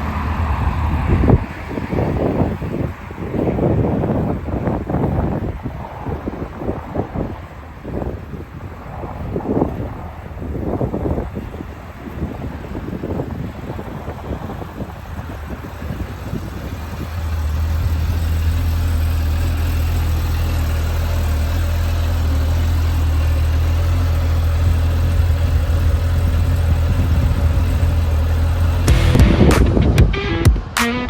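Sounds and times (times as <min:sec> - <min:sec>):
engine running with low hum: 0:00.0 - 0:29.6.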